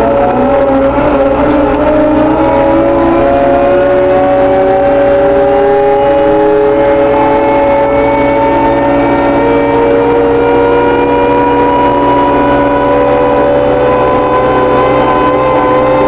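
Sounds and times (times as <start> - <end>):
diesel engine running at high revs: 0.0 - 16.0.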